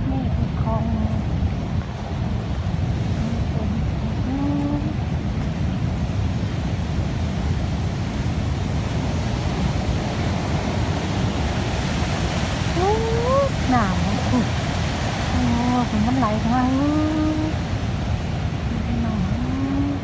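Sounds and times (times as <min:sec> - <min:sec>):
ocean waves breaking: 0:00.0 - 0:20.0
wind buffeting microphone: 0:00.0 - 0:20.0.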